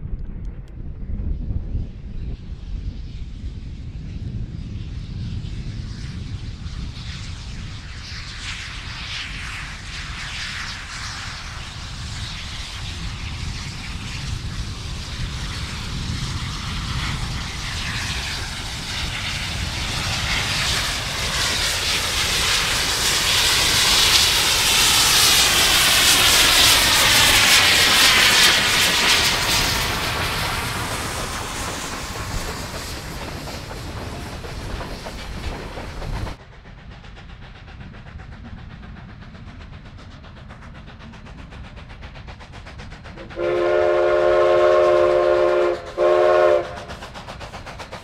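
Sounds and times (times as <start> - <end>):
steam locomotive exhaust: 1.8 - 48.0.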